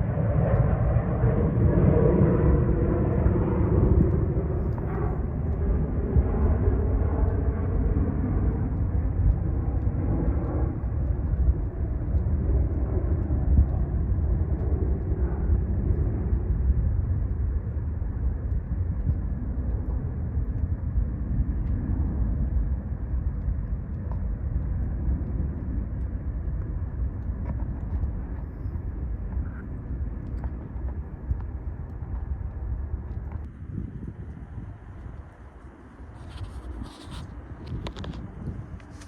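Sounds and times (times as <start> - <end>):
jet airliner roaring overhead: 0.0 - 39.0.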